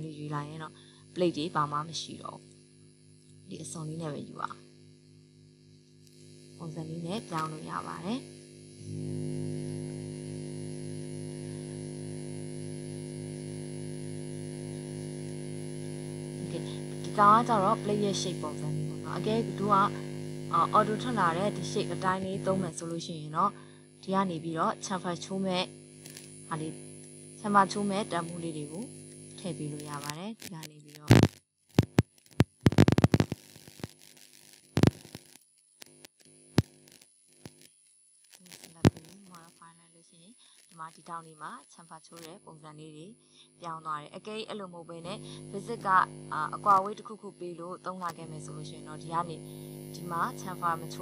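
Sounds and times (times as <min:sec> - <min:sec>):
electrical hum and buzz: 0:00.0 - 0:51.0
faint high whine: 0:00.0 - 0:51.0.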